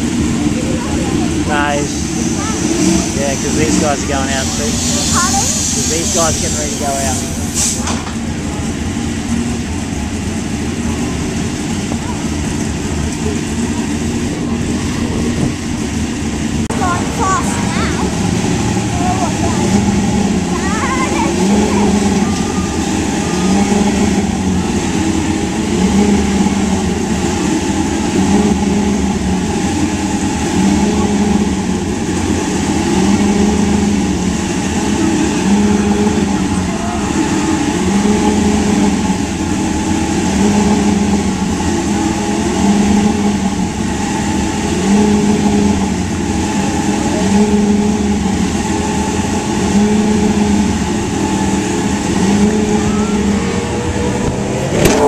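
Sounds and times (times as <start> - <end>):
race car engine running: 0.0 - 55.0.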